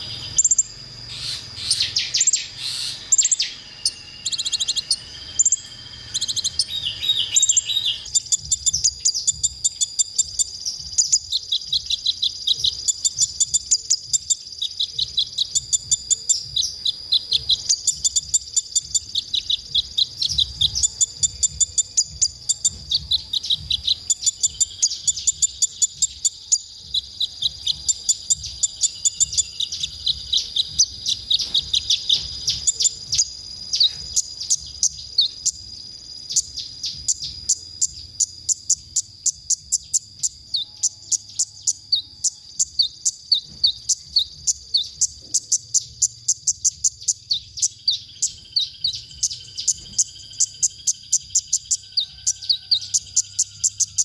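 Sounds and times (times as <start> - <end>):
high-pitched insect-like whine: 0.0 - 54.0
sharp high chirps: 0.0 - 54.0
sunbird singing: 0.0 - 54.0.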